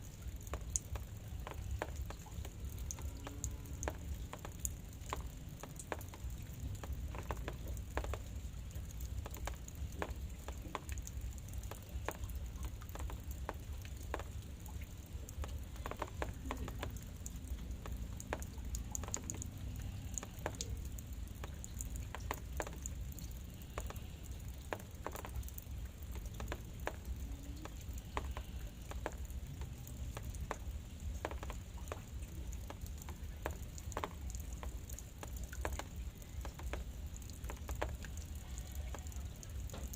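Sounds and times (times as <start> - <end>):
drizzle drops pattering: 0.0 - 39.9.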